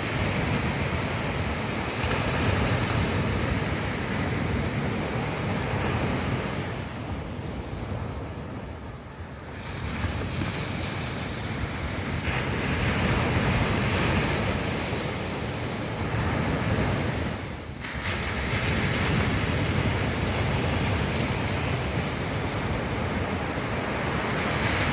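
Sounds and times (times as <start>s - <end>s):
ocean surf washing onto beach: 0.0s - 24.9s
wind on microphone: 0.0s - 24.9s.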